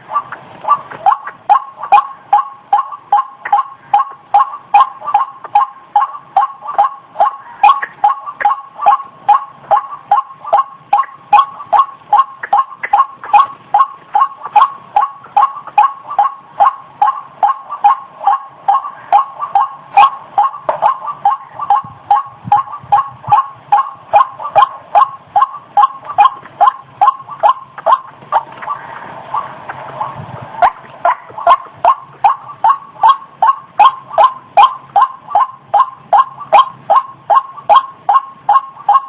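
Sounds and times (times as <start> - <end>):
waterhen calling: 0.0 - 39.0.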